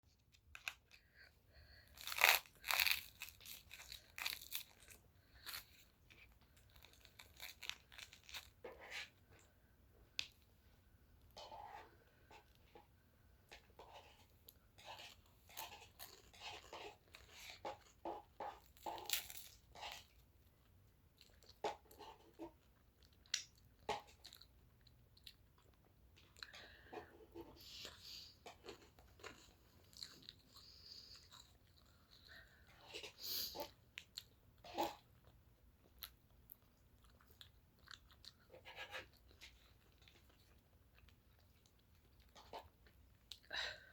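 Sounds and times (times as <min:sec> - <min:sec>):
person chewing egg: 0:01.8 - 0:09.5, 0:14.4 - 0:43.5.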